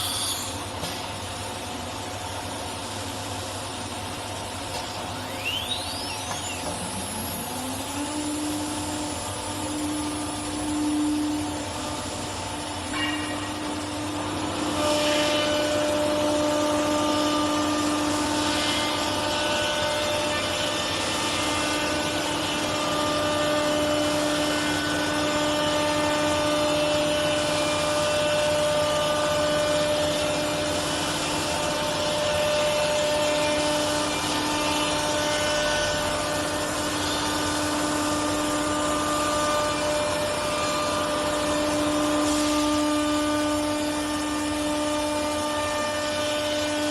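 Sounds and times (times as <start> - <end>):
machine hiss: 0.0 - 46.8
router spindle whine: 0.0 - 46.9.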